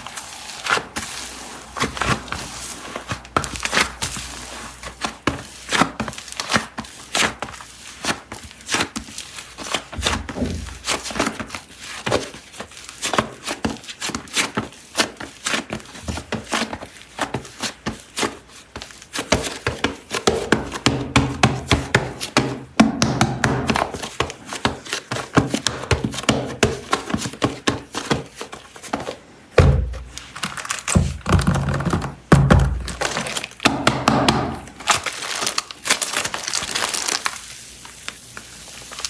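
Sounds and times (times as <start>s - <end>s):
clay and packaging handled: 0.0s - 20.9s, 23.7s - 39.0s.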